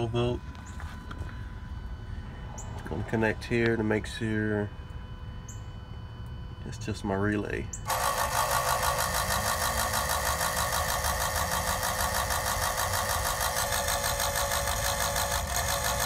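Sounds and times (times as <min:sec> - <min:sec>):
electric pump buzzing whir: 0:00.0 - 0:16.0.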